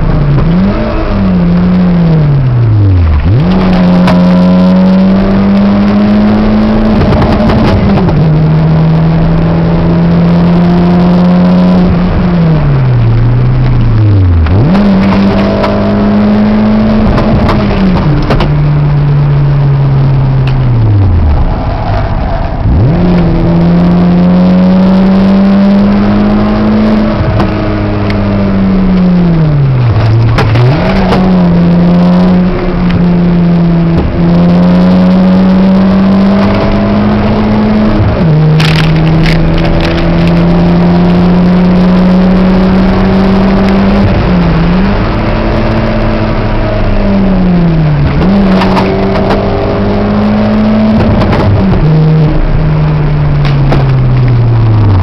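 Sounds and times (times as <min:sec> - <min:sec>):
car engine at high revs: 0:00.0 - 0:55.0.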